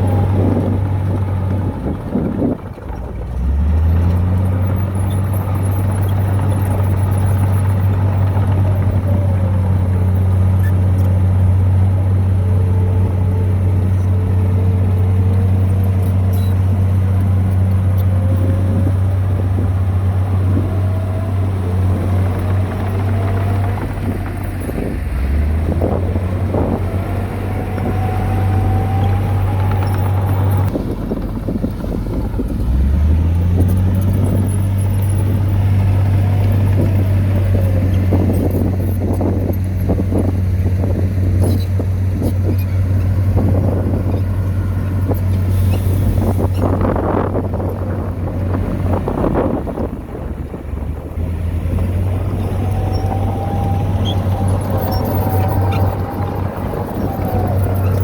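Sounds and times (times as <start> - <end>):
heavy diesel machine running: 0.0 - 58.0.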